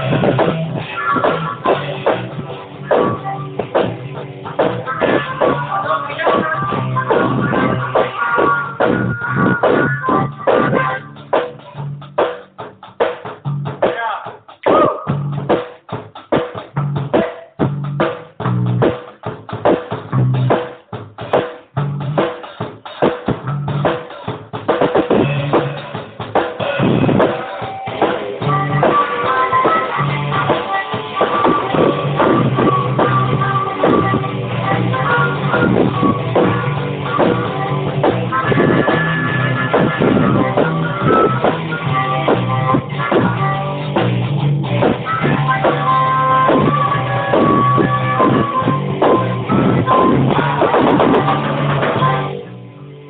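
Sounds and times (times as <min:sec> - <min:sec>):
electric guitar: 0:00.0 - 0:13.8, 0:14.6 - 0:53.0
drum kit beat: 0:00.0 - 0:52.6.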